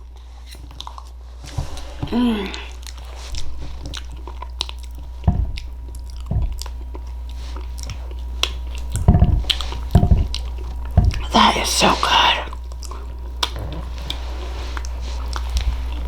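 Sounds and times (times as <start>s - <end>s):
low hum: 0.0s - 16.0s
person chewing food: 0.0s - 16.0s.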